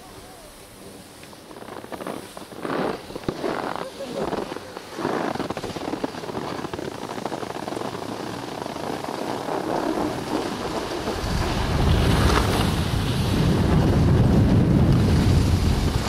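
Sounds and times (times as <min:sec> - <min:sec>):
skis sliding on snow: 0:00.0 - 0:16.0
wind buffeting microphone: 0:01.4 - 0:16.0.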